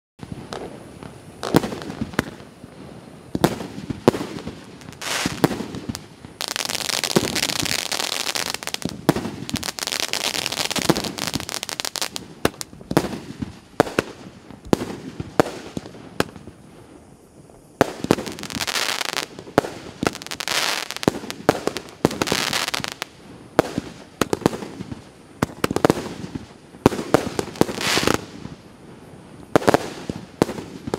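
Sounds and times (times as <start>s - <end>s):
firework bangs: 0.2s - 16.6s, 17.8s - 28.6s, 29.5s - 30.9s
firework hissing: 0.2s - 30.9s.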